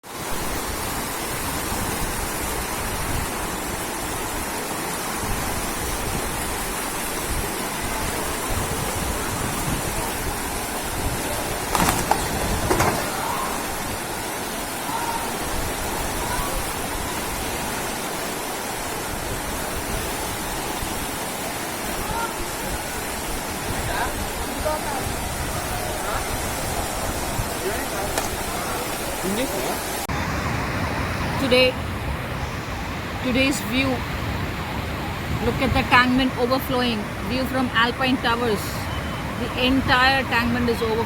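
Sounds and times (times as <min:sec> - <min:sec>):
rushing floodwater: 0:00.0 - 0:41.0.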